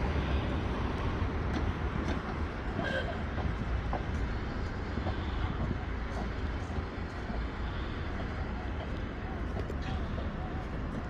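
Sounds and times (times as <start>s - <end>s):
railway car rumbling on track: 0.0s - 11.0s.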